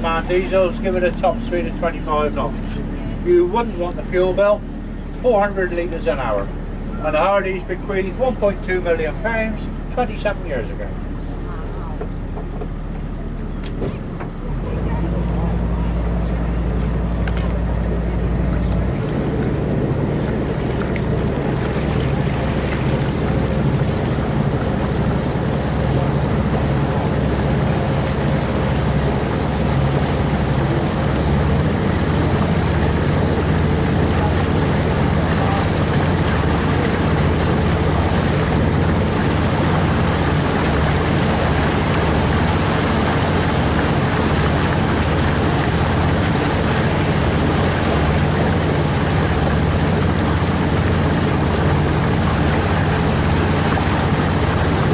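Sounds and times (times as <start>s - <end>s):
boat engine droning: 0.0s - 54.9s
moving water: 0.0s - 54.9s.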